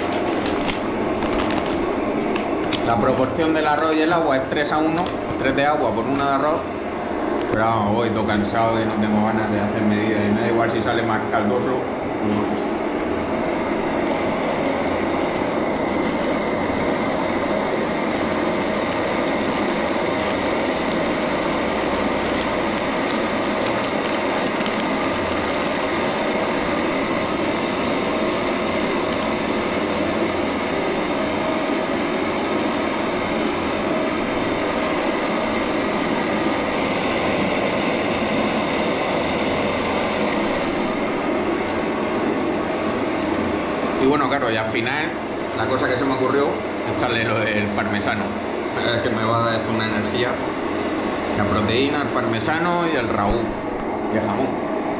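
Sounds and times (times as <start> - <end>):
camping stove burner hissing: 0.0 - 8.8, 13.0 - 54.1.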